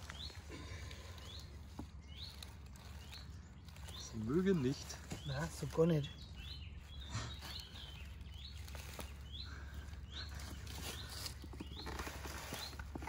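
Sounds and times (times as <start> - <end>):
rustling in grass: 0.0 - 13.0.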